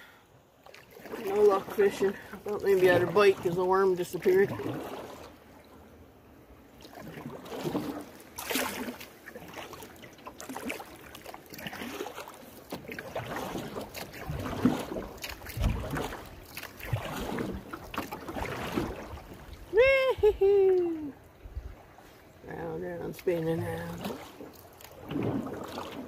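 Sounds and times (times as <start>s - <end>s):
paddle splashes: 0.0s - 26.0s
rushing water: 0.0s - 26.0s.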